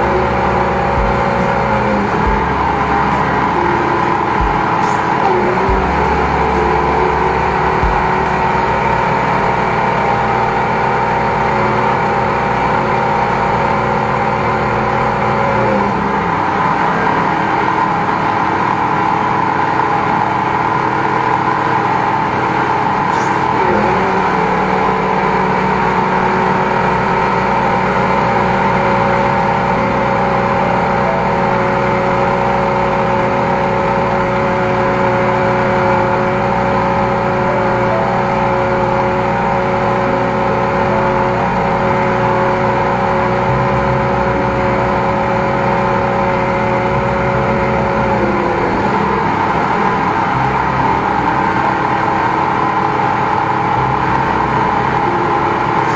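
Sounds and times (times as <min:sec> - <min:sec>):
drain jetter running: 0:00.0 - 0:55.9.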